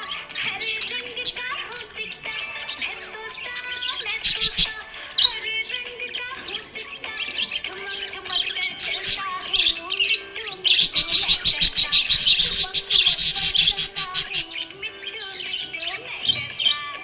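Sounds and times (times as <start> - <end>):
background music: 0.0 - 17.0
budgerigar chirping and chattering: 0.0 - 17.0.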